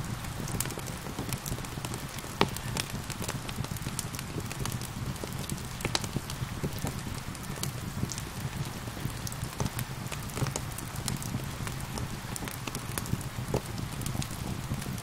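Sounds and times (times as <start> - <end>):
steady rain: 0.0 - 15.0
wood fire popping and crackling: 0.0 - 15.0.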